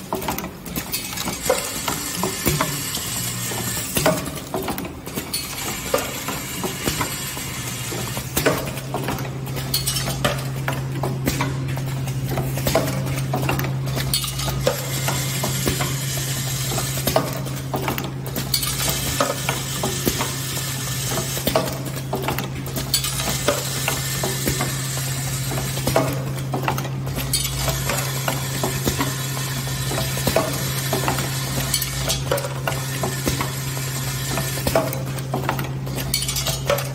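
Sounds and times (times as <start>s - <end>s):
clicks and clinks of metal parts: 0.0s - 7.2s, 7.9s - 16.0s, 16.7s - 20.3s, 21.1s - 24.7s, 25.4s - 36.9s.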